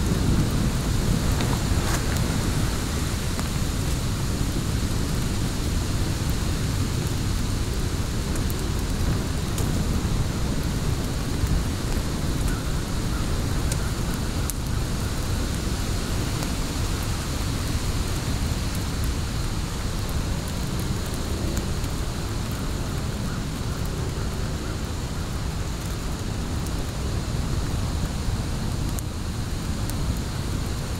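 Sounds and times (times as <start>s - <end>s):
fire crackling and rumbling: 0.0s - 30.9s.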